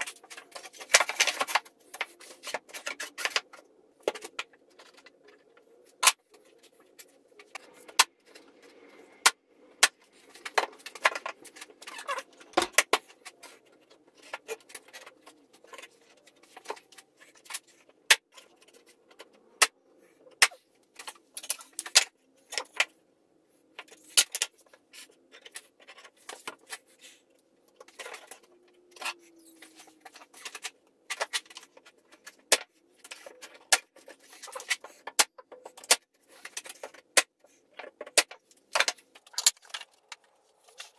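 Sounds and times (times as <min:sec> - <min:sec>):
wooden parts clicking and knocking: 0:00.0 - 0:23.0, 0:27.6 - 0:40.9.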